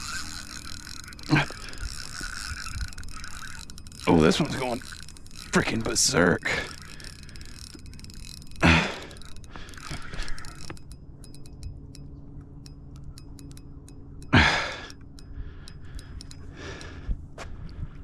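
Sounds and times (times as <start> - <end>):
fishing reel ticking: 0.0 - 18.0.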